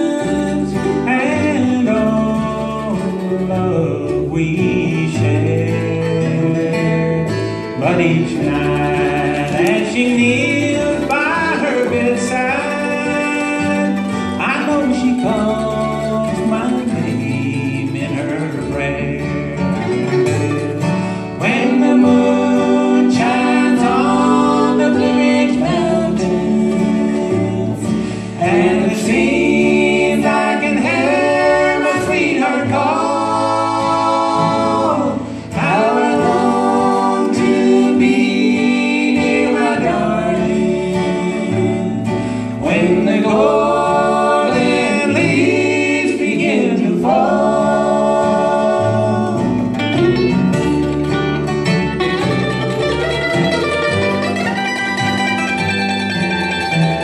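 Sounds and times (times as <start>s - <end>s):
voices singing in harmony: 0.0s - 50.0s
acoustic guitar: 0.0s - 57.0s
mandolin: 0.0s - 57.0s
upright bass: 0.0s - 57.0s.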